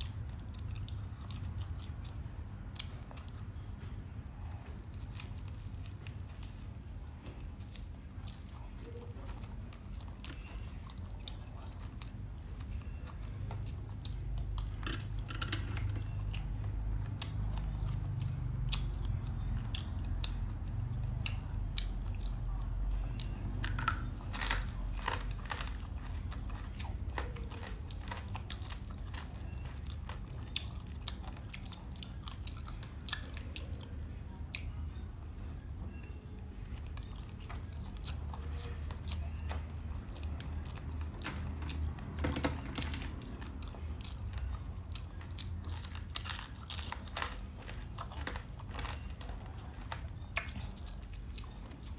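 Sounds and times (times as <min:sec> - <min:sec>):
person chewing crunchy food: 0:00.0 - 0:35.1, 0:36.0 - 0:51.9.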